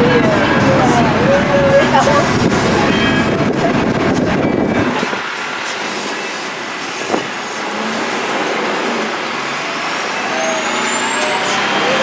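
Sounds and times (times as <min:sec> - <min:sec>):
diesel engine and road rumble: 0:00.0 - 0:12.0.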